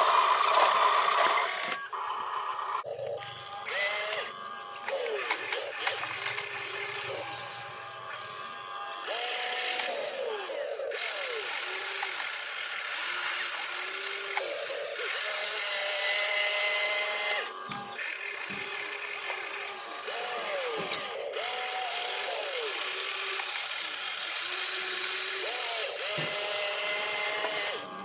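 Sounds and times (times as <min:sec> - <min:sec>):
small electric motors whirring: 0:00.0 - 0:28.0.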